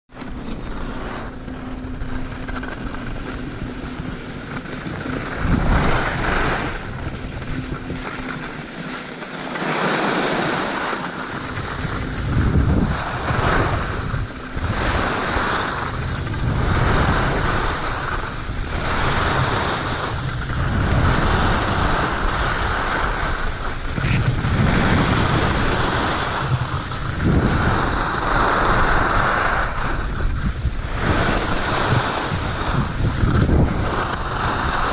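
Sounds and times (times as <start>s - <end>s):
wind on microphone: 0.1s - 34.9s
skis scraping over snow: 0.2s - 34.9s.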